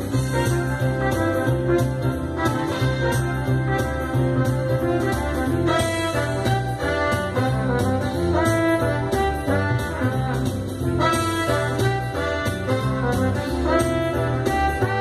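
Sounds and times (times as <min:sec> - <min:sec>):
horn-led band music over loudspeakers: 0:00.0 - 0:15.0.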